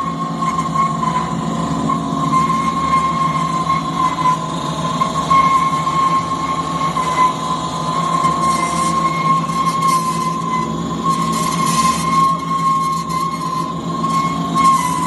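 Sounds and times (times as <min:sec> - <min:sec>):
machine humming with high whine: 0:00.0 - 0:15.0.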